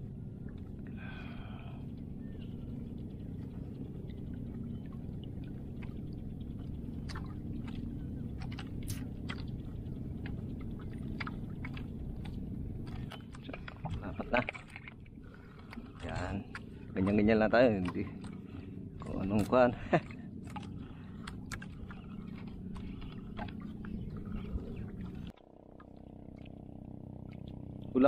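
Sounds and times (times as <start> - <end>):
water rumbling around boat: 0.0 - 28.0.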